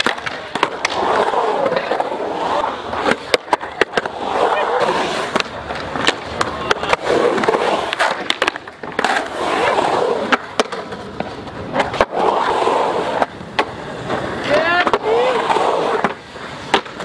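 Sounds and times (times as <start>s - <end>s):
skateboard clacks: 0.0s - 17.0s
skateboard wheels rolling on concrete: 0.0s - 17.0s.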